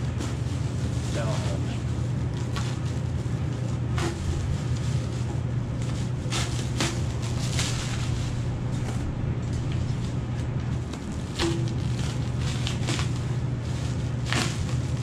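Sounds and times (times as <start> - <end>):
foil and plastic bag crinkling: 0.0 - 15.0
steady low hum: 0.0 - 15.0.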